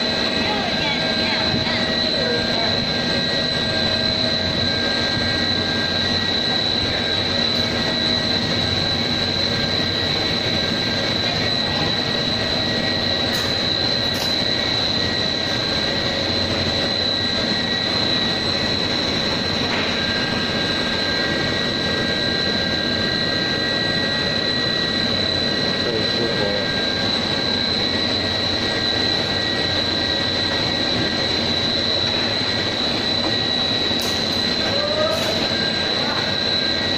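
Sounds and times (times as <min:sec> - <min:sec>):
production line machinery whine: 0:00.0 - 0:36.9.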